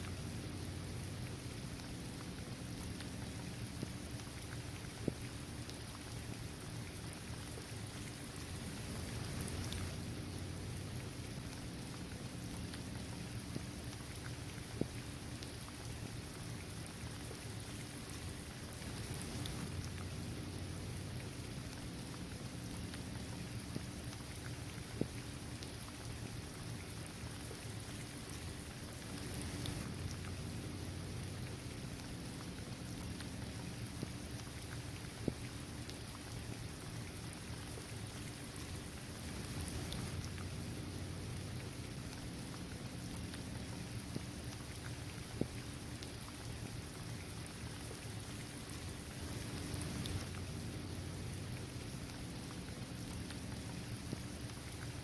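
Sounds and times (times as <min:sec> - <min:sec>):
rain on hard surface and trees: 0:00.0 - 0:55.0.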